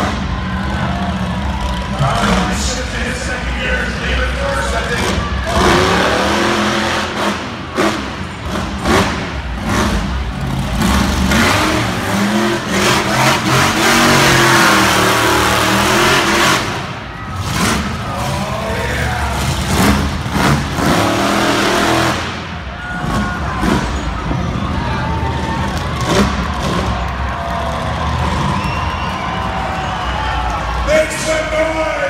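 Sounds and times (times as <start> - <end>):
truck engine revving hard: 0.0 - 31.3.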